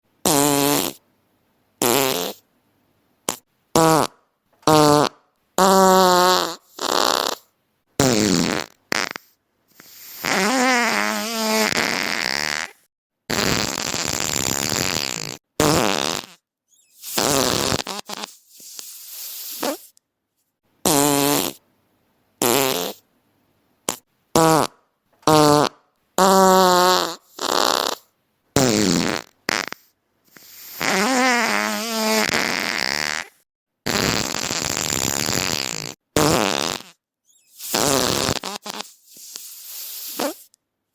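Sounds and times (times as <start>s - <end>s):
fart sounds: 0.2s - 1.0s, 1.8s - 2.5s, 3.3s - 20.0s, 20.8s - 21.6s, 22.4s - 23.0s, 23.9s - 40.5s.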